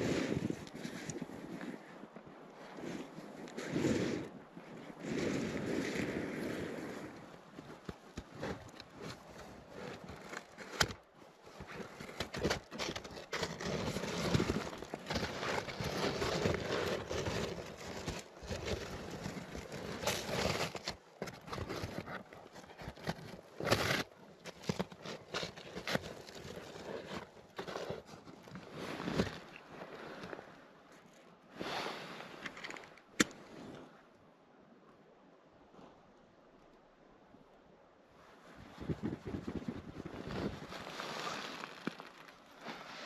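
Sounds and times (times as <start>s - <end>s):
rustling and crinkling: 0.0s - 33.9s, 38.3s - 43.0s.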